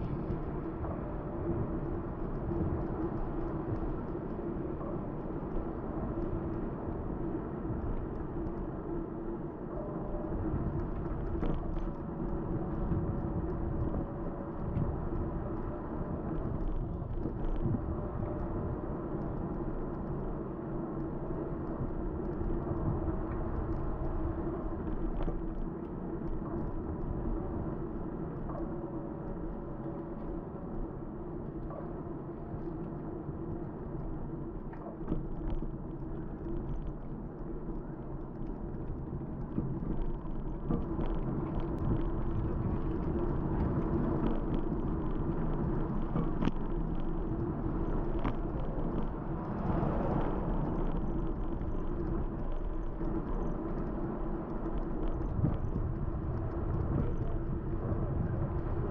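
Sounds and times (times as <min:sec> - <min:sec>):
constant low hum: 0:00.0 - 0:58.9
wind and road noise: 0:00.0 - 0:58.9.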